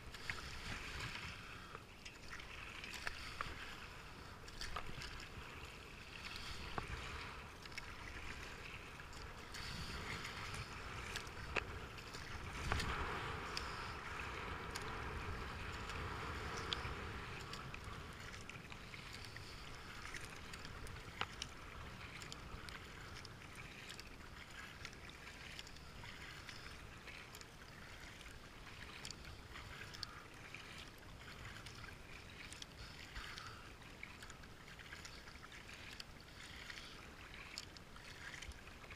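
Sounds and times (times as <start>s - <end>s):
light ticks and drips: 0.0s - 38.9s
paddle splashing in water: 0.0s - 38.9s
water washing along hull: 0.0s - 38.9s.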